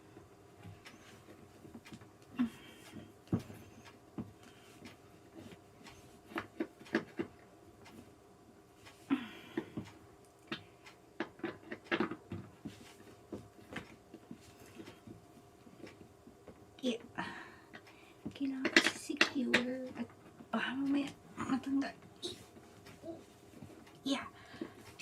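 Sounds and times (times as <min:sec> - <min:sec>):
faint steady hum: 0:00.0 - 0:25.0
light clicks and knocks of parts: 0:00.1 - 0:17.1, 0:17.7 - 0:25.0.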